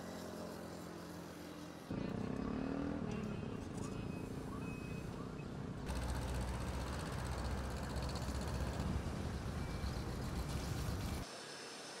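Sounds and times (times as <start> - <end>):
road traffic rumble: 0.0 - 11.2.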